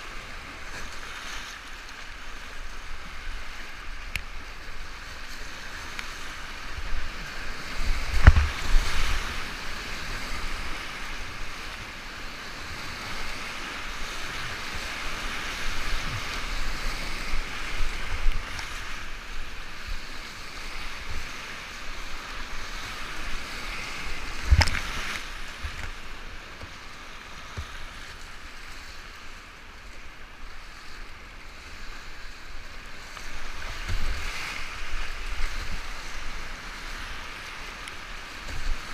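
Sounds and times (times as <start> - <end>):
rapids rushing and splashing: 0.0 - 38.9.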